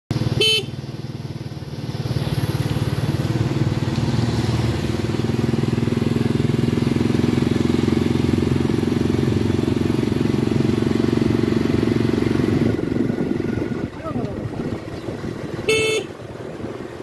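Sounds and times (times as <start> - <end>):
motorcycle engine running: 0.1 - 17.0.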